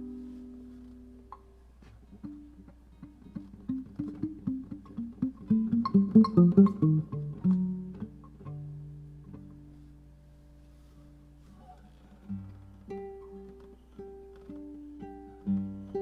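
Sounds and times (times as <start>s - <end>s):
classical guitar playing: 0.0s - 16.0s.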